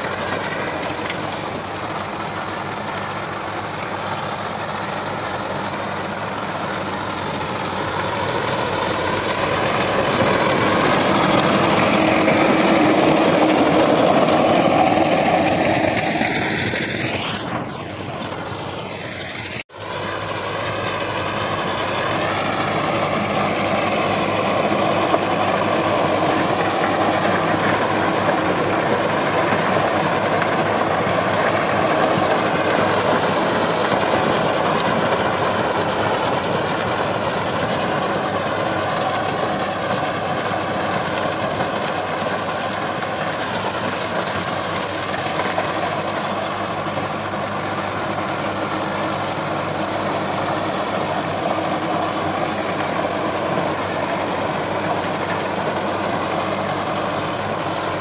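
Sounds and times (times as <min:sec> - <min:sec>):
rotavator tilling soil: 0:00.0 - 0:58.0
tractor diesel engine running: 0:00.0 - 0:58.0.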